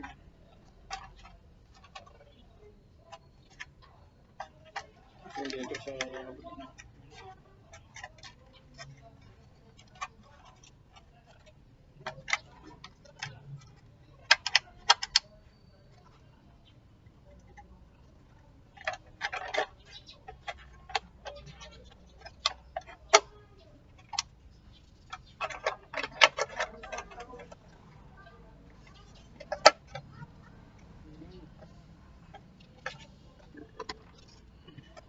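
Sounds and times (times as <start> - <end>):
clicks of small hard parts: 0.0 - 15.3, 17.3 - 35.0.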